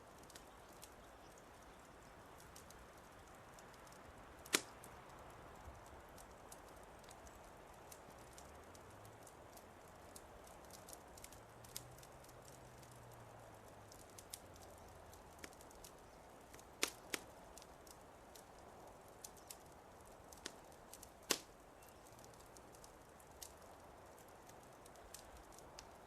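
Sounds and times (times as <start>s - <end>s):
fire hissing: 0.0s - 26.0s
wood fire crackling: 0.0s - 26.0s.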